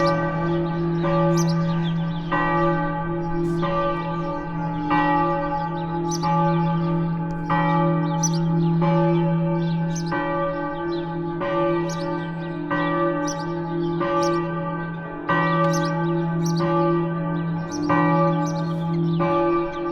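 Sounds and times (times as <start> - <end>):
church bells ringing: 0.0 - 19.9.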